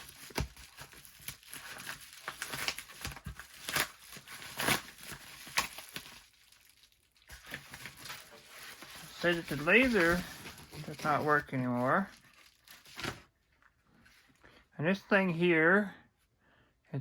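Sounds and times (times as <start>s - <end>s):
packaging rustling and crackling: 0.0s - 13.7s.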